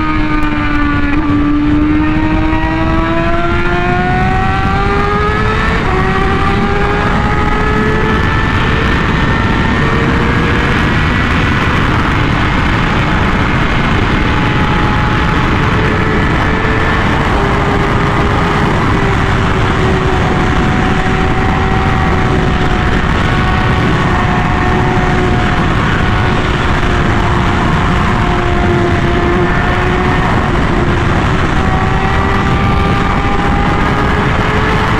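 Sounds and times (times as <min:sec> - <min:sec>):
motorcycle engine cruising: 0:00.0 - 0:34.9
wind rush: 0:00.0 - 0:34.9.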